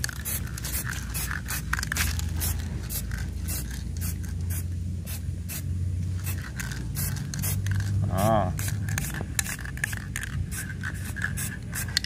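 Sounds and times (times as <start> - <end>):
spray can hissing: 0.0 - 12.0
steady low hum: 0.0 - 12.0.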